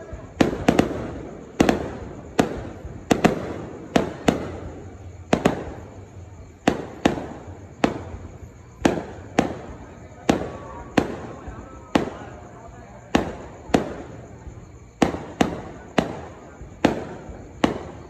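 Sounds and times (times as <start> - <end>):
fireworks bursting overhead: 0.0 - 18.0.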